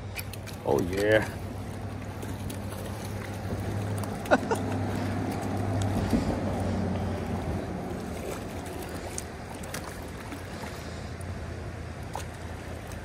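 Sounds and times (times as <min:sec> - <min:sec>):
creek water rushing: 0:00.0 - 0:13.0
fish splashing at surface: 0:00.0 - 0:13.0.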